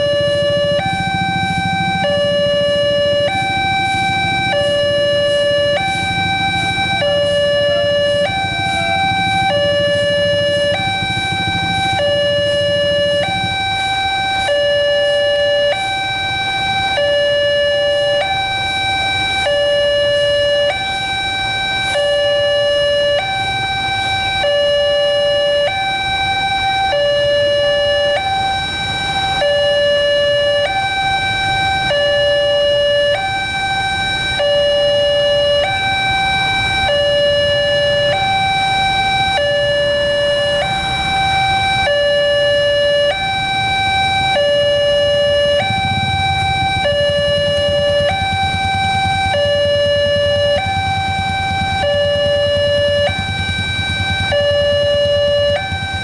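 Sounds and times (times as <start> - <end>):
two-tone level-crossing alarm: 0.0 - 56.0.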